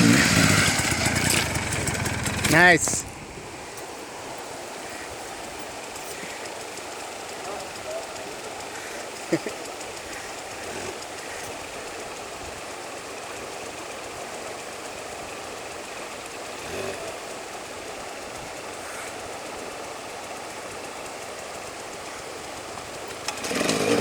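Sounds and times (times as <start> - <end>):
distant motorcycle engine idling: 0.0 - 24.0.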